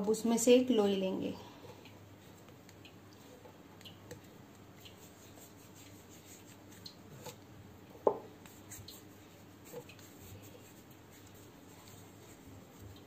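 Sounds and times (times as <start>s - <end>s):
hands working dough: 2.1s - 13.0s.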